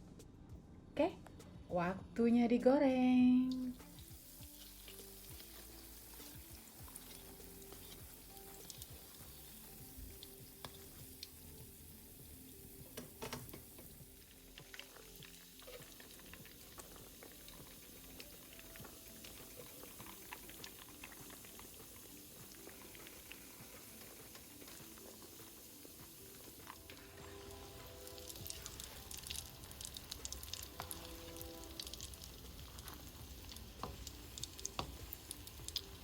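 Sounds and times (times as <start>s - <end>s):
food deep-frying in oil: 3.4s - 36.0s.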